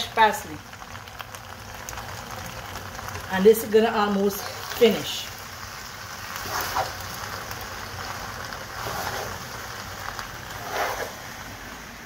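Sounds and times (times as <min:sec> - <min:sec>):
pasta sizzling in a pot: 0:00.0 - 0:12.0.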